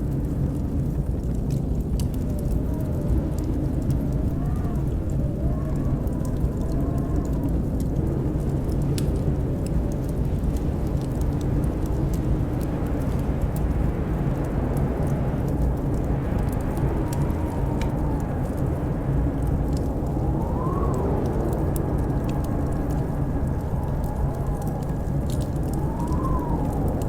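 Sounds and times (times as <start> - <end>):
blizzard wind howling: 0.0 - 27.0
wood fire crackling: 0.0 - 27.0.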